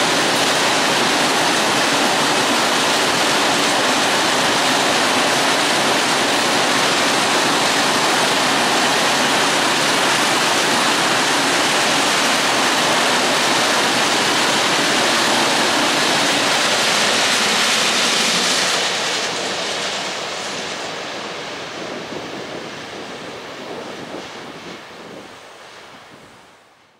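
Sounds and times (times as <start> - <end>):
freight train rolling past: 0.0 - 26.6.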